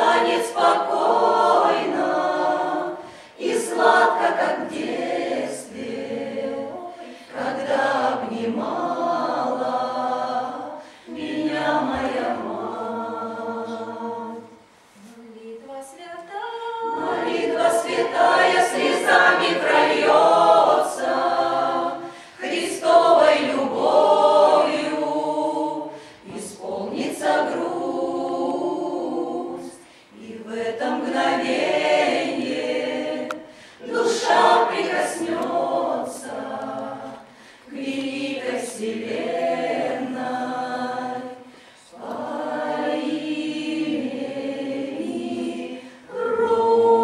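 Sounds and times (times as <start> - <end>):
mixed choir singing in harmony: 0.0 - 47.0.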